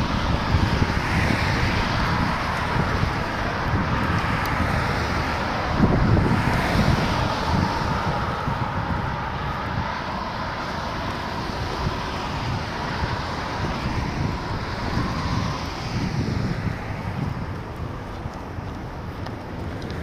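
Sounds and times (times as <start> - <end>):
road traffic hiss: 0.0 - 20.0
wind buffeting microphone: 0.0 - 20.0.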